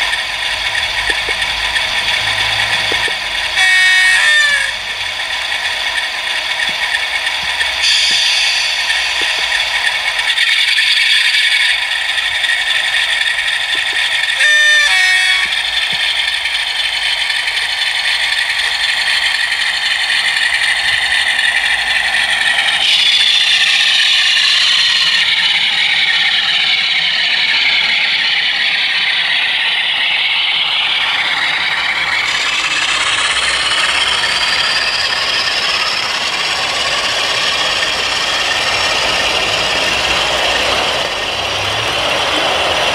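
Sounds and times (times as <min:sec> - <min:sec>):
model train wheels clattering: 0:00.0 - 0:42.9.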